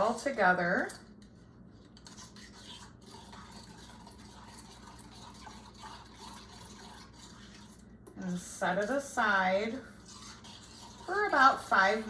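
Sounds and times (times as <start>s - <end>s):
utensil stirring in bowl: 0.0s - 12.0s.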